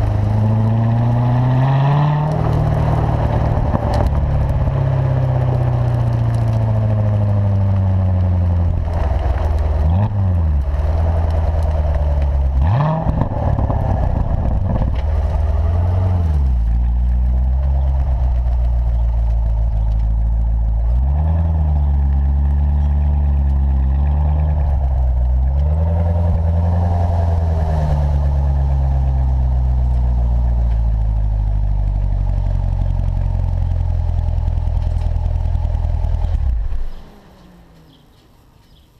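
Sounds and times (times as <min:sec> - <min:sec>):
car engine revving: 0:00.0 - 0:38.2.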